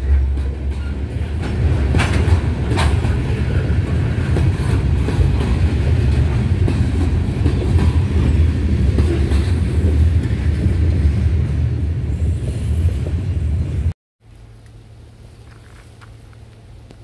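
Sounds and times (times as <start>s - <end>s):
freight train cars rolling past: 0.0s - 13.9s.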